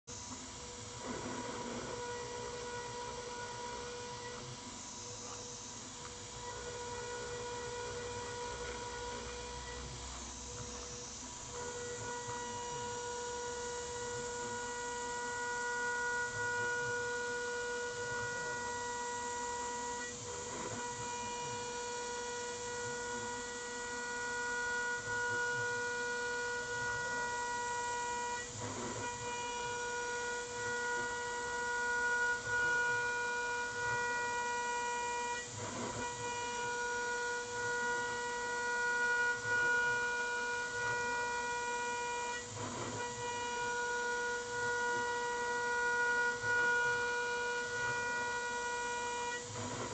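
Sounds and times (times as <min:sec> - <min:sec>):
router spindle cutting aluminium: 0:00.1 - 0:49.9.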